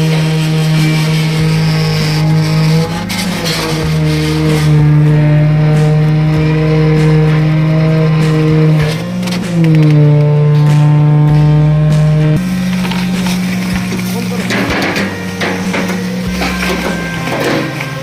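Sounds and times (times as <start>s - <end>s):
diesel engine running at high revs: 0.0s - 18.0s.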